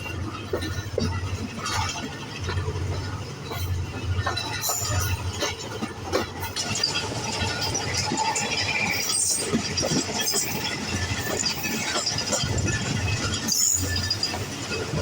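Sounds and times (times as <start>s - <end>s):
train coaches rumbling and rattling: 0.0s - 15.0s.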